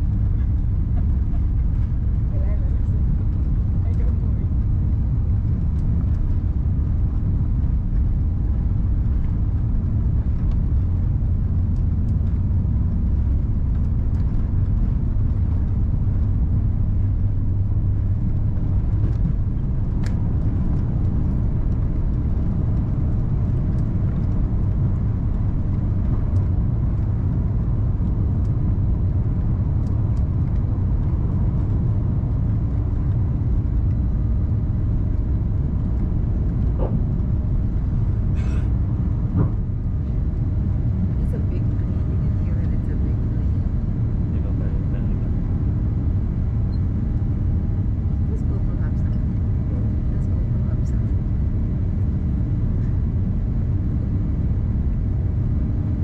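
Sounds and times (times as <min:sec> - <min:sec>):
jet engine deep rumble: 0:00.0 - 0:56.0.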